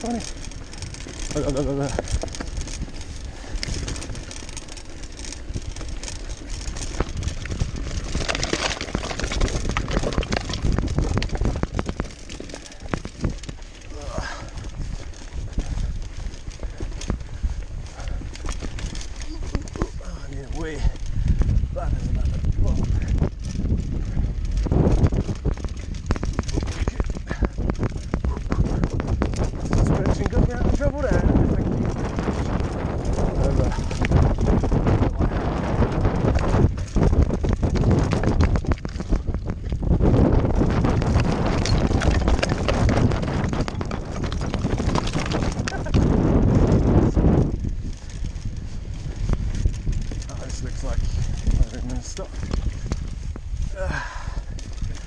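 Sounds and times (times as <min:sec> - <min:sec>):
bike tyres clattering over stones: 0:00.0 - 0:55.0.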